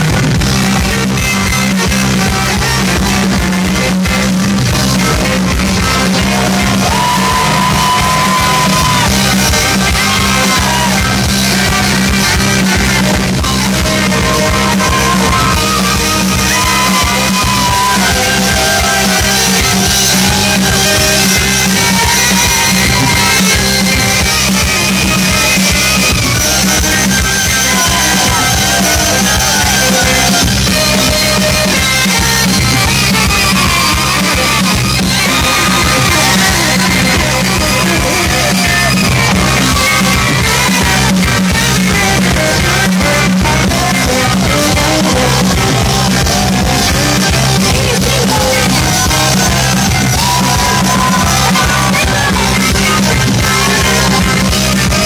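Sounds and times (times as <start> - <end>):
rock band playing live: 0.0 - 55.0
saxophone: 0.0 - 55.0.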